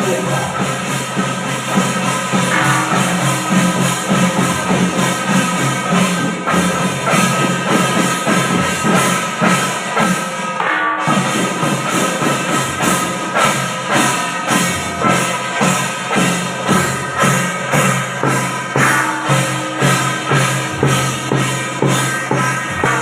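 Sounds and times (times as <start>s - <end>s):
drums keeping steady beat: 0.0s - 23.0s
percussion-driven music: 0.0s - 23.0s.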